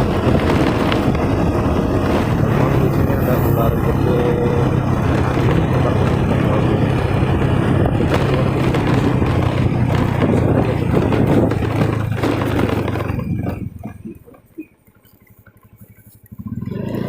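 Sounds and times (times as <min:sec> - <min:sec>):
motorcycle engine hum: 0:00.0 - 0:17.0
wind and road noise: 0:00.0 - 0:17.0.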